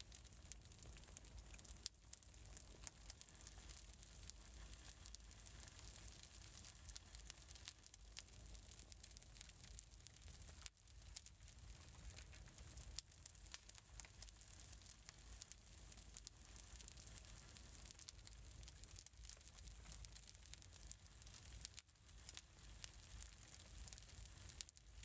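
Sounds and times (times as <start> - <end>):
crackling wood fire: 0.0 - 25.0.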